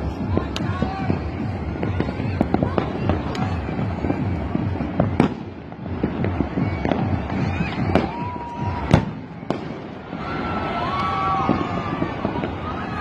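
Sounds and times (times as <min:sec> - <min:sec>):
firecrackers crackling: 0:00.0 - 0:13.0
firework booms: 0:00.0 - 0:13.0
firework whistling tones: 0:00.0 - 0:13.0.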